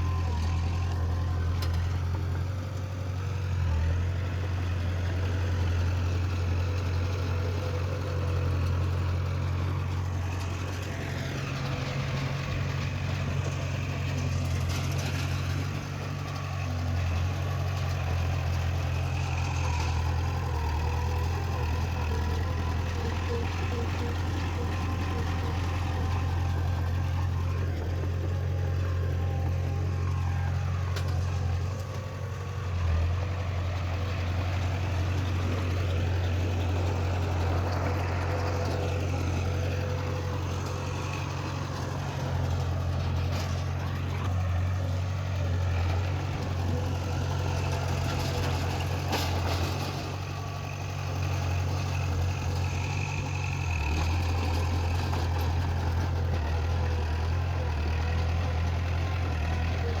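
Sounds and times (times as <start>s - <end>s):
heavy diesel engine droning: 0.0s - 60.0s.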